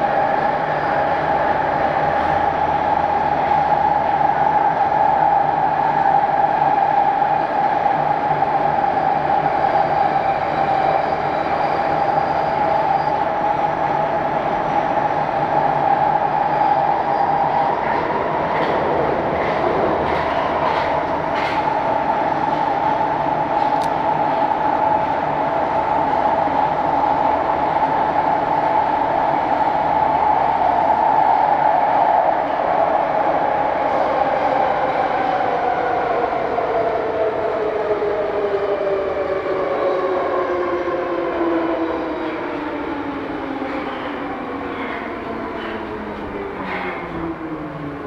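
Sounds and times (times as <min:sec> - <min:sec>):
metro train rumble: 0:00.0 - 0:48.0.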